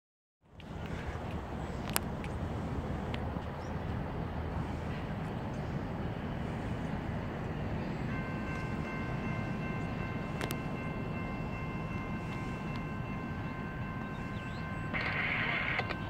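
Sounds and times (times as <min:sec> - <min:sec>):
distant freight train rumble: 0:00.4 - 0:16.0.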